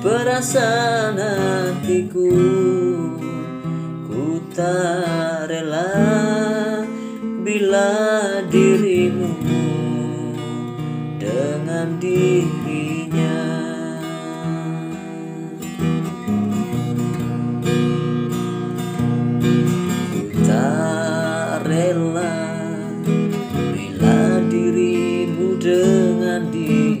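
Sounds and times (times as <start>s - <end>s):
pop song: 0.0s - 27.0s
strummed acoustic guitar: 0.0s - 27.0s.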